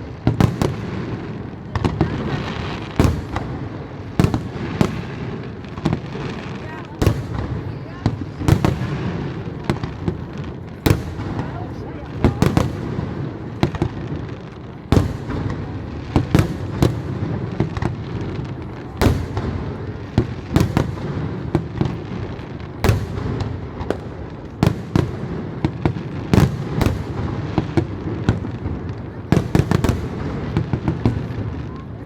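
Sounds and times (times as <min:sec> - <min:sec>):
fireworks rumbling and banging: 0:00.0 - 0:32.0.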